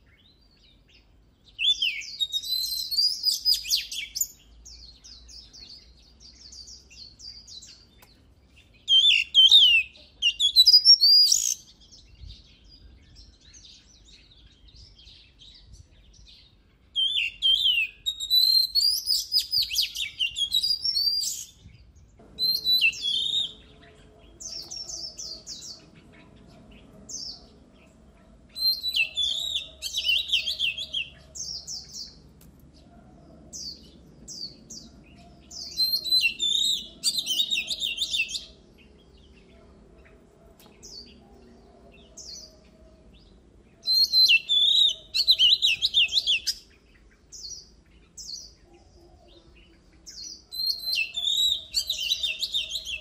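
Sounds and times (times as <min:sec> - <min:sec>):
bird singing: 0:00.0 - 0:53.0.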